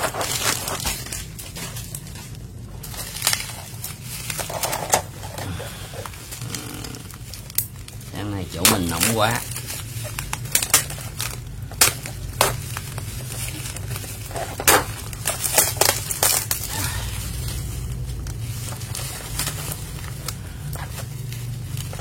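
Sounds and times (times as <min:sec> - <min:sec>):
packaging crinkling and tearing: 0:00.0 - 0:22.0
steady low hum: 0:00.0 - 0:22.0.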